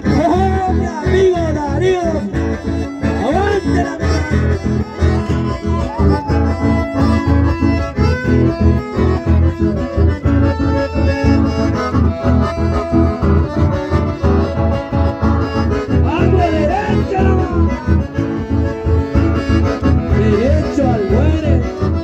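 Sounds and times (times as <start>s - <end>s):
button accordions: 0.0s - 22.0s
driving low beat: 0.0s - 22.0s
guitar: 0.0s - 22.0s.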